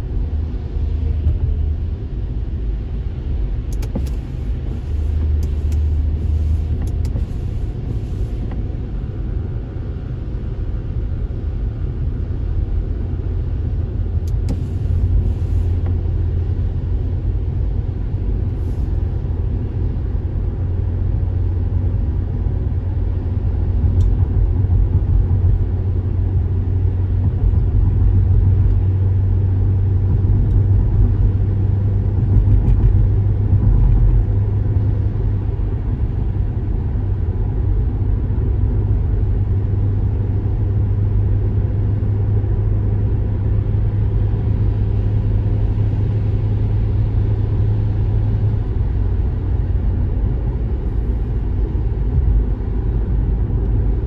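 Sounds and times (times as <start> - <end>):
road and engine rumble inside car: 0.0 - 54.0.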